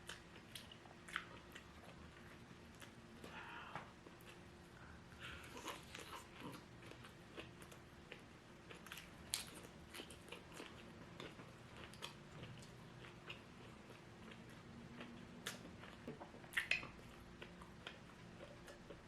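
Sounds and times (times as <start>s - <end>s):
chewing crisp fried food: 0.0s - 19.0s.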